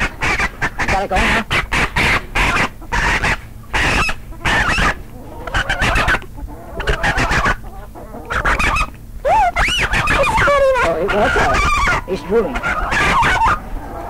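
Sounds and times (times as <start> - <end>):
chickens clucking and squawking: 0.0 - 14.0.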